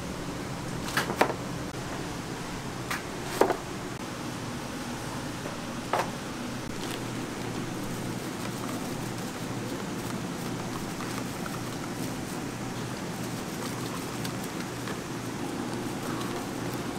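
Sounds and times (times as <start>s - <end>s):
steady background hum: 0.0s - 16.9s.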